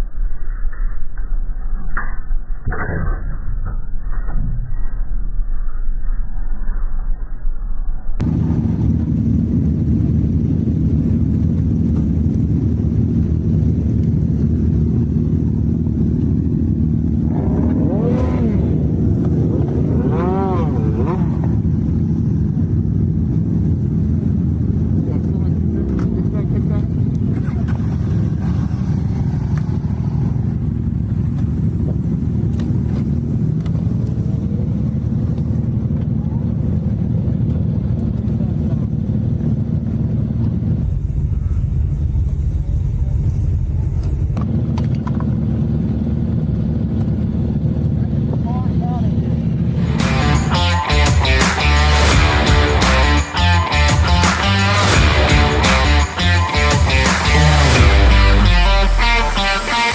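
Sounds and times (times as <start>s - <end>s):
vehicle engine running: 8.2s - 59.9s.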